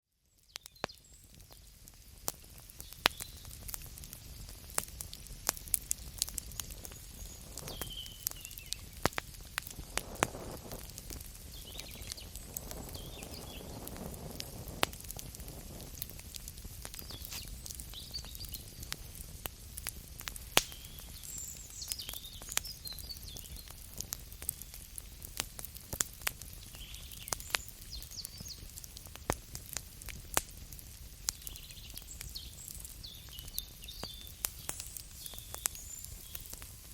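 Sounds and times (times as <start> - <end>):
campfire crackling: 0.3 - 36.9
fire popping: 0.3 - 36.9
low rush of burning: 1.3 - 21.4, 22.9 - 36.9.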